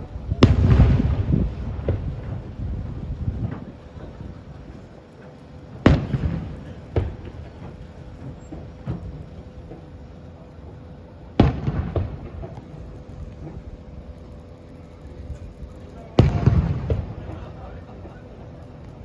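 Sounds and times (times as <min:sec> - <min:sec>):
fireworks bursting: 0:00.0 - 0:19.0
rumbling echo: 0:00.0 - 0:19.0.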